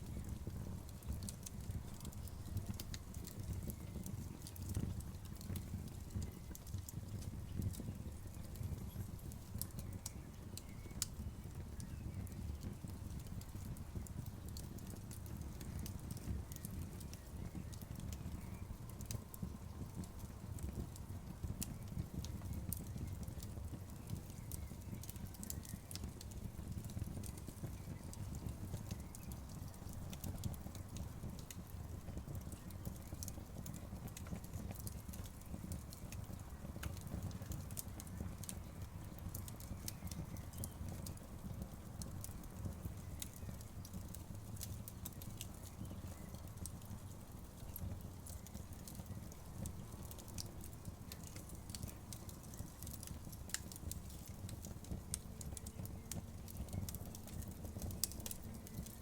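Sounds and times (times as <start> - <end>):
bonfire crackling and popping: 0.0 - 59.0
low rumble of flames: 0.0 - 59.0.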